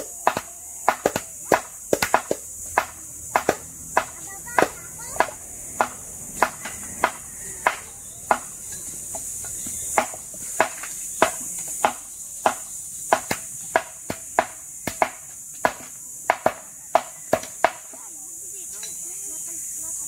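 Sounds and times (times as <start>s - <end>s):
tool striking bamboo: 0.0s - 18.0s
steady high hiss: 0.0s - 20.0s.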